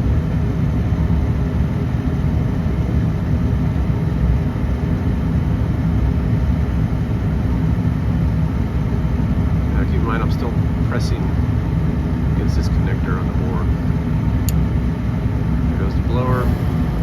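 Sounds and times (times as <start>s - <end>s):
gas furnace rumbling: 0.0s - 17.0s.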